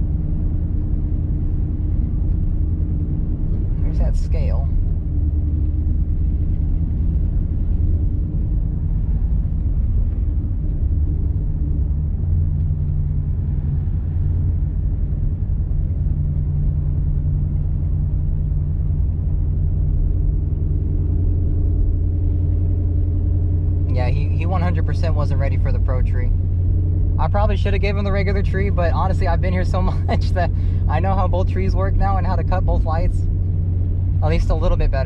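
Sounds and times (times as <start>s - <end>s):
car engine low rumble: 0.0s - 35.0s.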